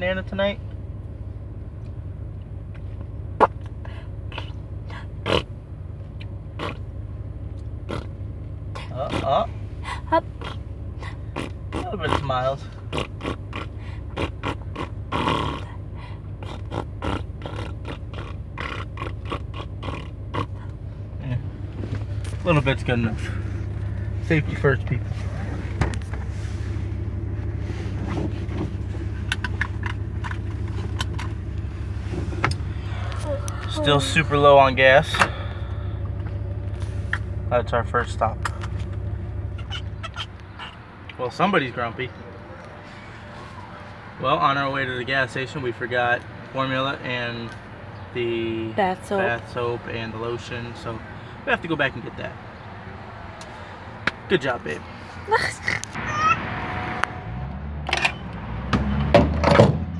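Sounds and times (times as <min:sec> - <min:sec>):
low hum of car cabin: 0:00.0 - 0:59.9.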